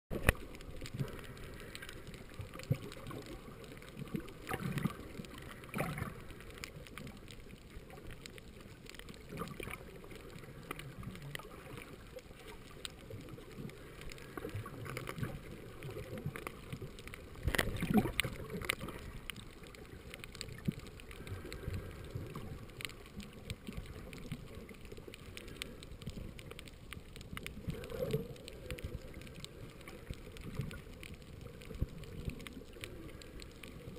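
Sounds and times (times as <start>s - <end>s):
faint clicks: 0.1s - 33.9s
underwater water gurgling: 0.1s - 33.9s.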